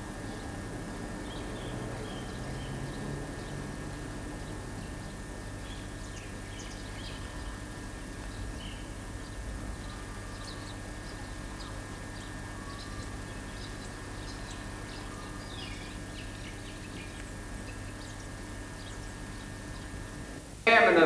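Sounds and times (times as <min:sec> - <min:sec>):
steady hum: 0:00.0 - 0:21.0
tape hiss: 0:00.0 - 0:21.0.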